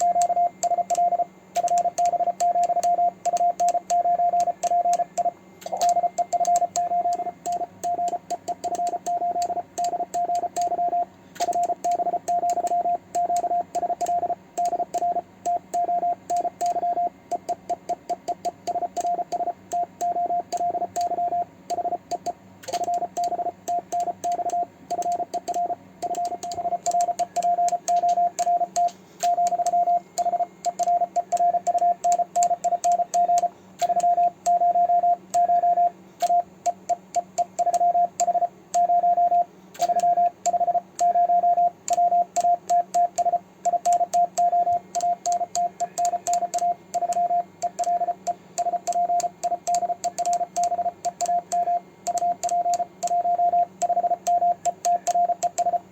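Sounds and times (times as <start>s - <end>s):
morse code beep tone: 0.0s - 55.9s.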